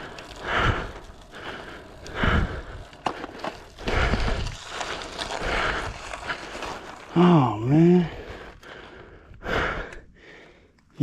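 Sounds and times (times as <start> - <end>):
cyclist breathing hard: 0.0 - 7.1, 7.8 - 11.0.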